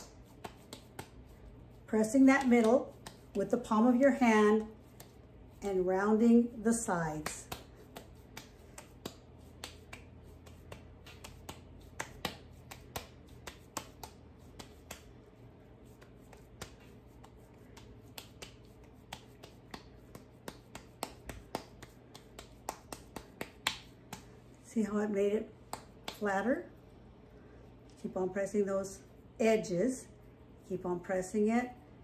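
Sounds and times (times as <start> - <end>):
hands patting dough: 0.0 - 26.7.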